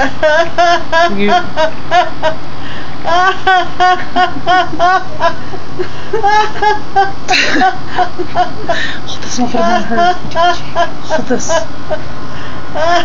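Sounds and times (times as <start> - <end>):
elderly woman laughing: 0.0 - 2.4, 3.0 - 12.0, 12.8 - 13.0.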